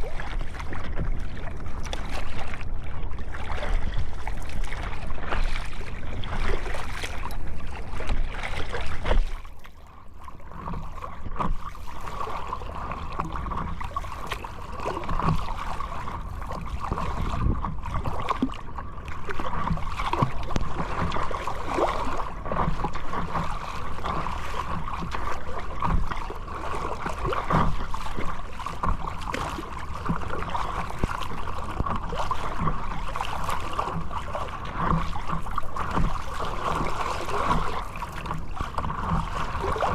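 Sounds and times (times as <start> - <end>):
water rushing over microphone: 0.0 - 39.9.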